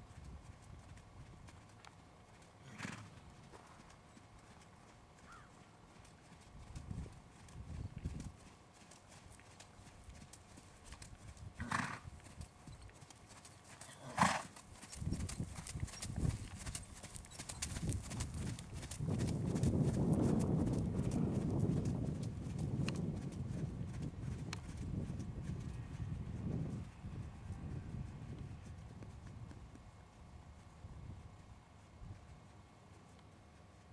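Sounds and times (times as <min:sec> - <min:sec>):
horse hoofbeats on sand: 0:00.0 - 0:33.9.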